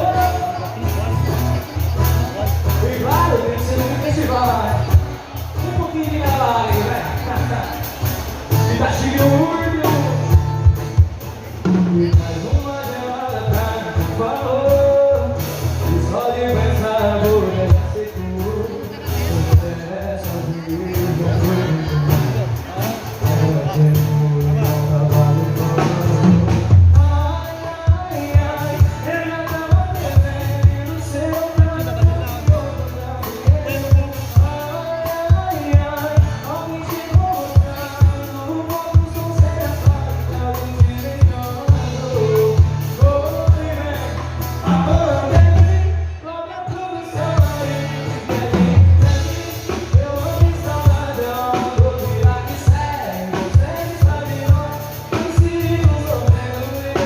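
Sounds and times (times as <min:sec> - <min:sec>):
person singing lead vocal: 0:00.0 - 0:11.0, 0:11.6 - 0:57.0
band playing: 0:00.0 - 0:57.0
drum kit beat: 0:00.0 - 0:57.0.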